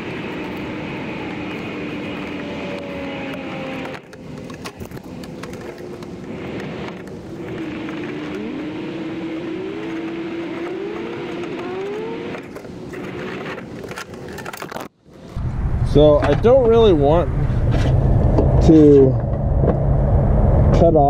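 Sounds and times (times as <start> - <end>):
vehicle engine revving: 0.0 - 13.7, 15.2 - 21.0.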